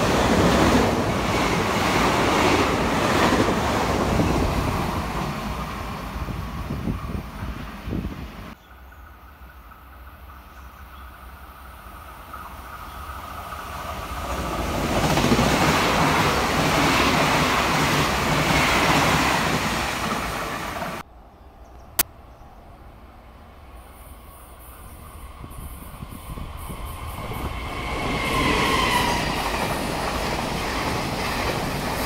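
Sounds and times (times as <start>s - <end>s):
train wheels rumbling past: 0.0s - 21.0s, 23.8s - 32.0s.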